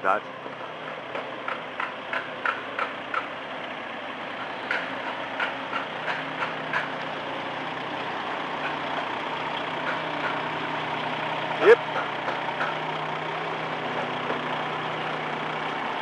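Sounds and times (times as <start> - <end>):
heavy vehicle engine idling: 0.0 - 16.0.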